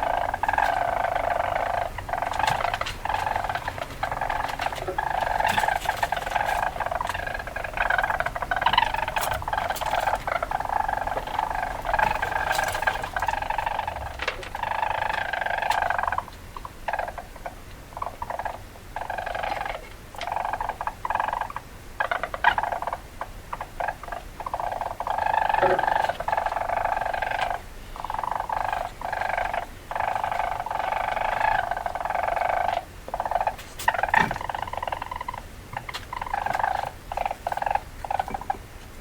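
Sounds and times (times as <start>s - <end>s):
weasel chattering: 0.0s - 38.7s.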